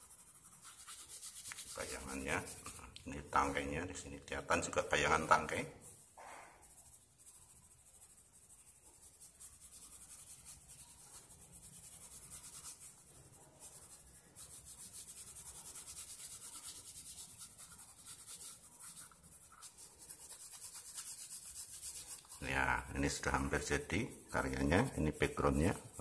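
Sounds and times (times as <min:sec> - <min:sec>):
pencil scratching on paper: 0:00.0 - 0:26.0.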